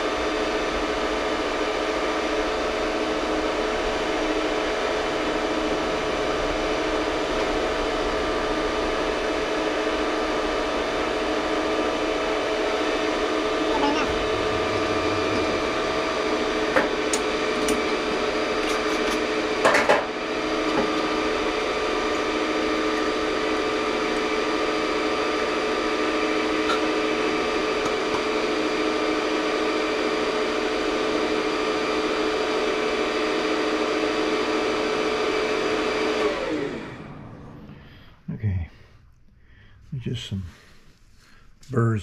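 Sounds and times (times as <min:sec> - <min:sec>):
machine tool motor running: 0:00.0 - 0:37.7.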